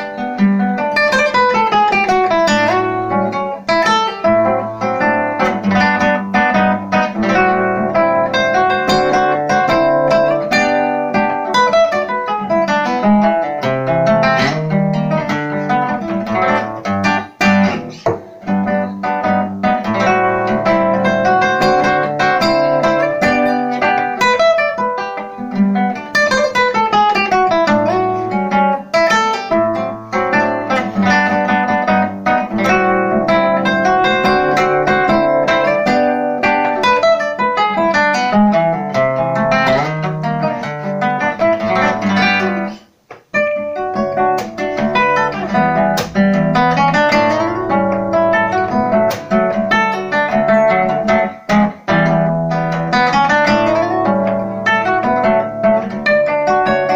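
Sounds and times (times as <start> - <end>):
nylon-string guitar fingerstyle melody: 0.0 - 56.9.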